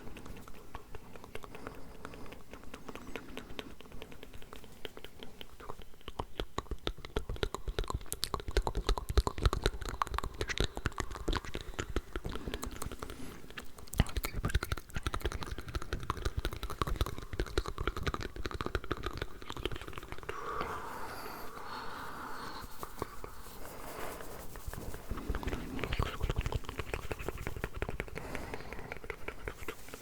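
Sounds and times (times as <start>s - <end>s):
soft whispering: 0.0s - 30.0s
wet mouth clicks and smacks: 0.0s - 30.0s.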